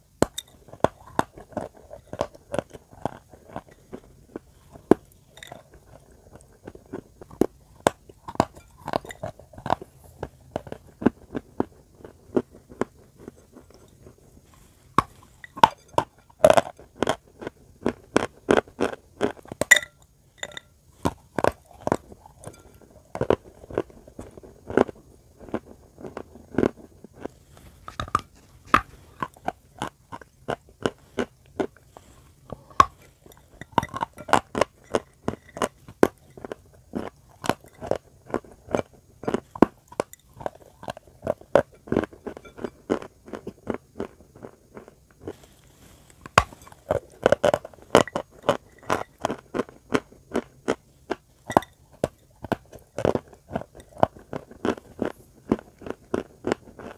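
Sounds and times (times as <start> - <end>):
chewing crunchy chalk: 0.6 - 56.9.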